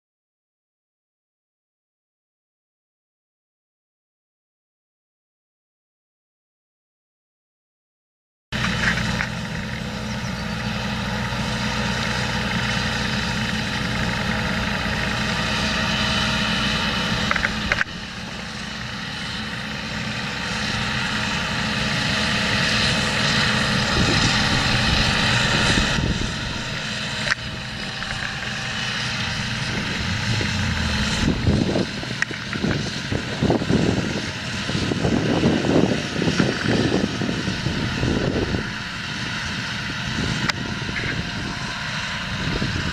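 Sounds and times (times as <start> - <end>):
tractor diesel engine running: 8.6 - 42.9
uneven rumbling bursts: 8.6 - 42.9.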